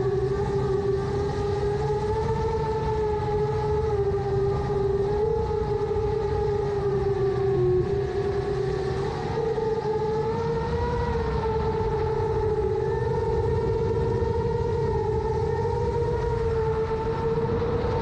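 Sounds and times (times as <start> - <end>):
low wind rumble: 0.0 - 18.0.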